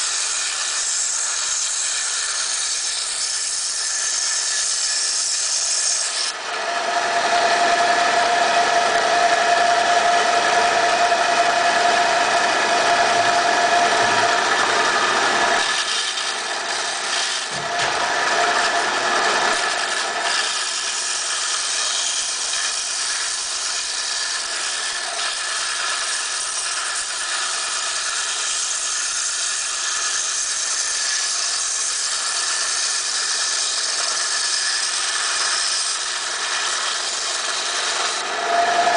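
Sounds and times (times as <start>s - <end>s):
band saw cutting coral: 0.0s - 38.9s.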